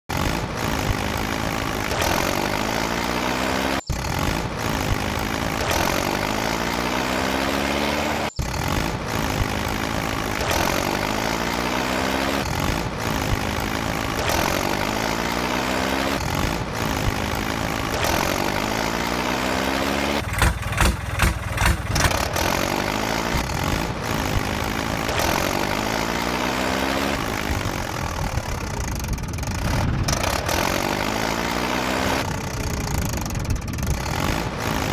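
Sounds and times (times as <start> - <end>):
tractor engine revving: 0.0 - 34.9.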